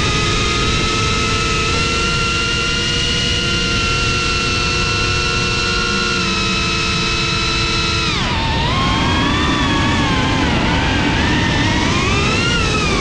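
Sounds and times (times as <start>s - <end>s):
drone motors whining: 0.0s - 13.0s
wind rumbling on microphone: 0.0s - 13.0s.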